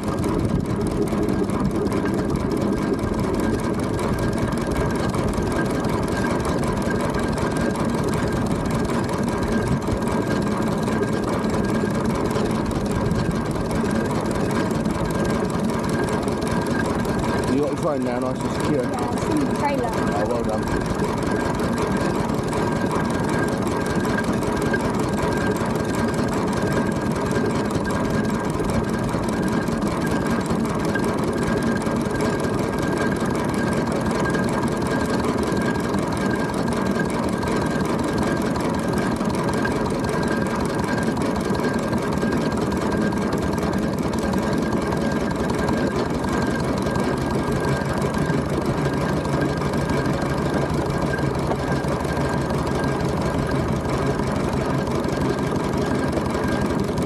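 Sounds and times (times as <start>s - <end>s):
low hum: 0.0s - 57.0s
steady high whine: 0.0s - 57.0s.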